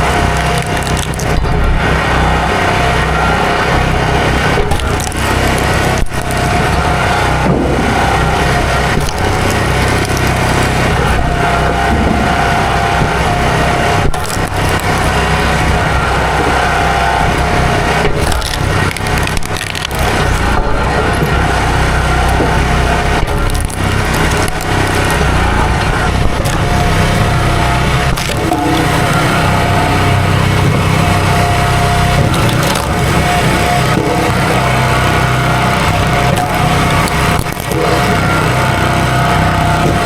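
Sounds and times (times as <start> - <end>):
chainsaw cutting at full throttle: 0.0 - 40.0.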